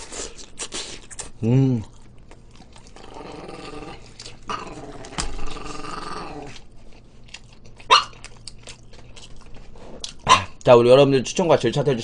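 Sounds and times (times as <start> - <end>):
crunchy food being chewed: 0.0 - 10.7.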